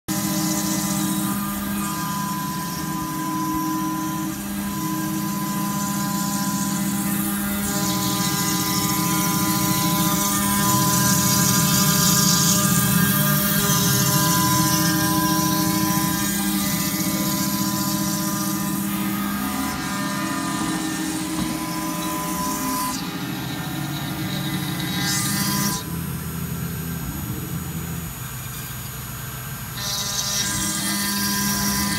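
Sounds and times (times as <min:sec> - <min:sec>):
tool grinding stone: 0:00.1 - 0:26.0
cnc machine motor whine: 0:00.1 - 0:31.9.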